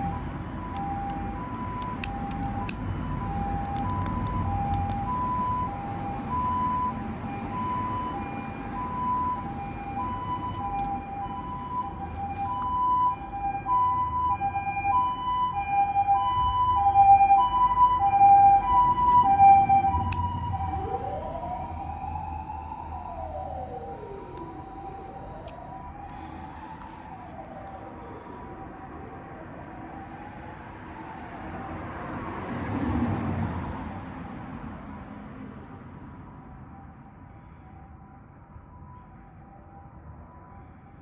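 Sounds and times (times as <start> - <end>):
siren wail: 0.0 - 41.0
two-tone ambulance siren: 0.0 - 41.0.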